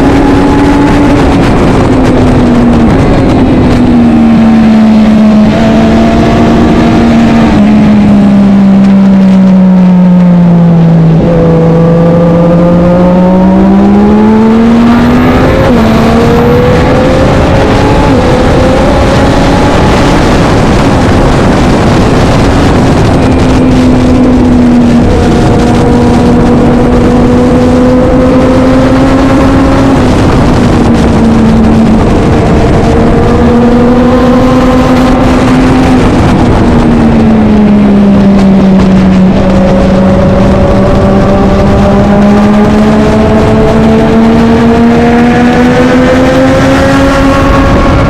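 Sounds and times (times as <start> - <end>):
motorcycle engine at high revs: 0.0 - 48.0
wind rush: 0.0 - 48.0.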